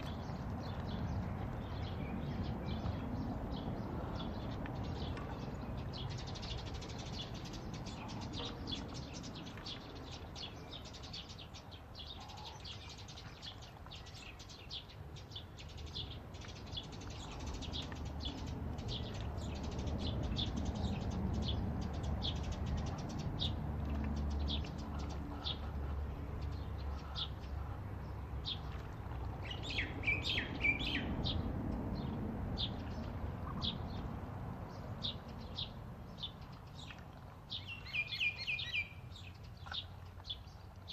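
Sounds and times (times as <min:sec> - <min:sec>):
small birds chirping: 0:00.0 - 0:34.1, 0:34.7 - 0:40.9.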